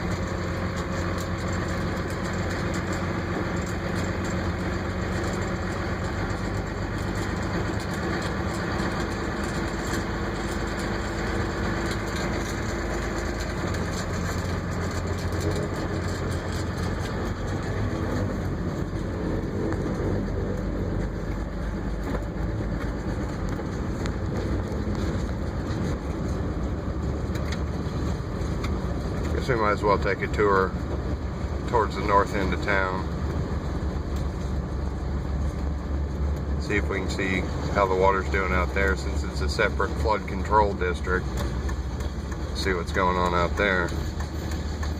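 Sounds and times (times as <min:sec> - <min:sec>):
engine running steadily: 0:00.0 - 0:44.9.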